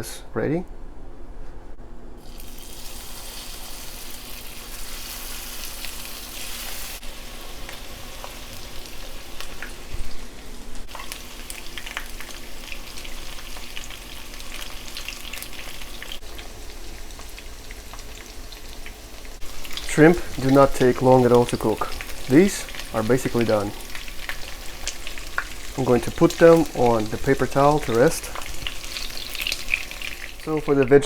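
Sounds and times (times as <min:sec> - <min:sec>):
shrimp sizzling in oil: 0:02.2 - 0:30.8.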